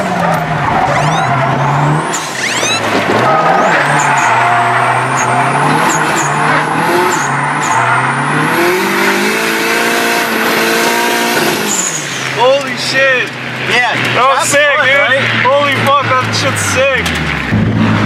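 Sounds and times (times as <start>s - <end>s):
car engine revving: 0.0s - 18.0s
tyres squealing and skidding: 0.0s - 18.0s.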